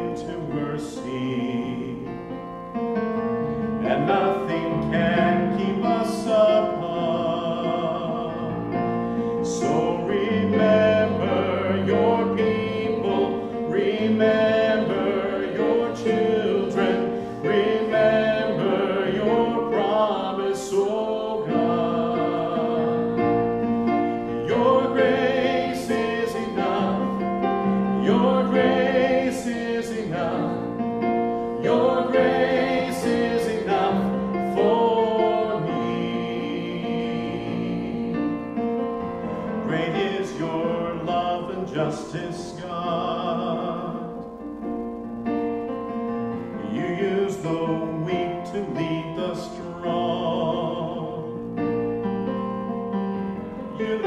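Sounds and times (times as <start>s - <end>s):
man singing: 0.0s - 2.5s, 3.8s - 23.4s, 24.4s - 30.8s, 31.6s - 37.8s, 39.4s - 44.4s, 46.5s - 51.5s, 53.6s - 54.0s
keyboard: 0.0s - 54.0s.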